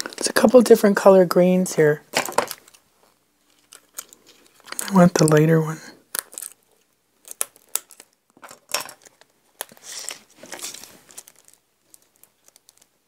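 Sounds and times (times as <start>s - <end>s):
plastic packaging crinkling: 2.1s - 13.0s.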